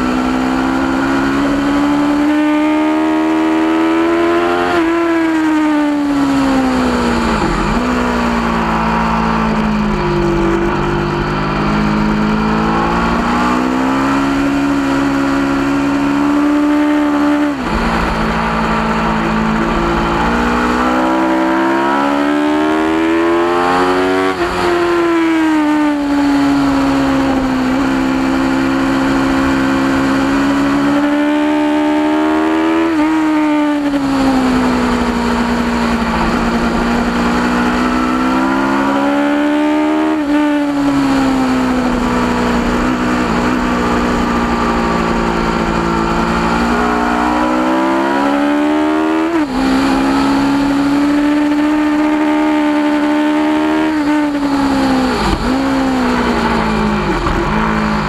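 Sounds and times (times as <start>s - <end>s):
motorcycle engine at track speed: 0.0s - 58.0s.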